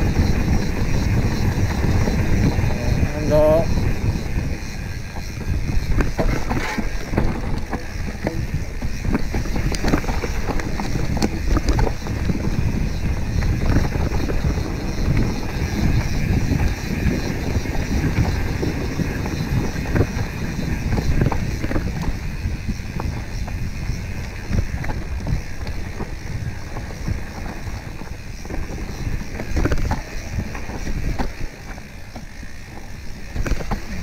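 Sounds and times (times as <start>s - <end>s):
bike knocks and rattles: 0.0s - 34.0s
tyres rolling over dirt: 0.0s - 34.0s
wind buffeting microphone: 0.0s - 34.0s.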